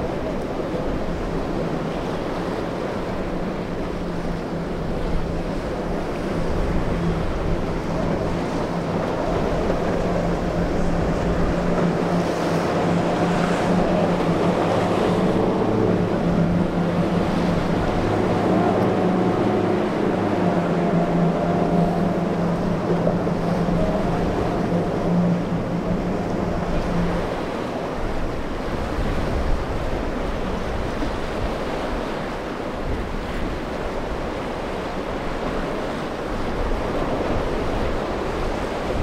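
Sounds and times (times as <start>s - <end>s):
breaking waves: 0.0s - 39.0s
outboard motor drone: 0.0s - 39.0s
wind on microphone: 0.0s - 39.0s.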